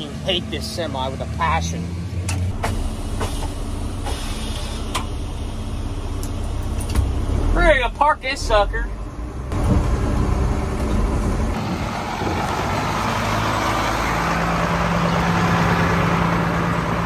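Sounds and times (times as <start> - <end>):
truck diesel engine running: 0.0 - 17.0
truck engine idling: 2.2 - 17.0.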